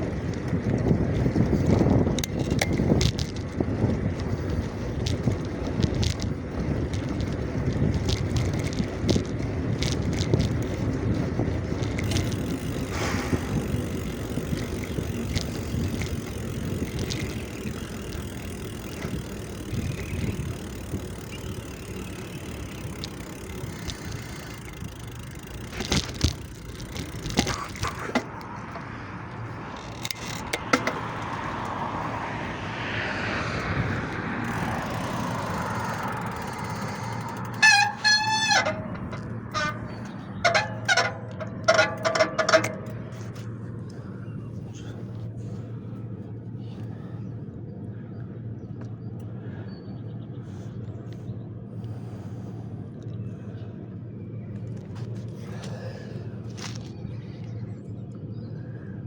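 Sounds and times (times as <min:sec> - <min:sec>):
bicycle clicks and rattles: 0:00.0 - 0:49.6, 0:50.4 - 0:59.0
road and wind rumble: 0:00.0 - 0:59.0.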